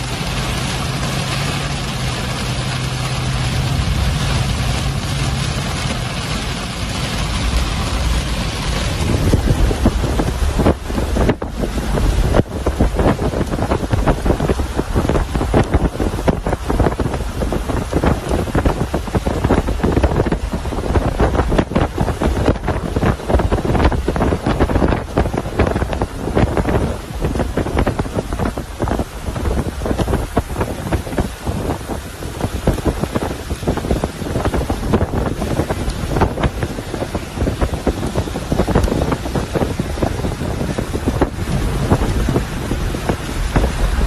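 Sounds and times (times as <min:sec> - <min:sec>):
rain hissing: 0:00.0 - 0:44.0
wind buffeting microphone: 0:00.0 - 0:44.0.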